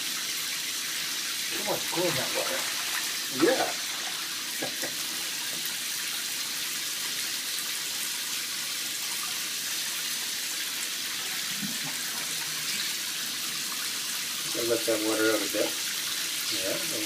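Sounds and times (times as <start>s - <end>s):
water running into bathtub: 0.0s - 17.0s.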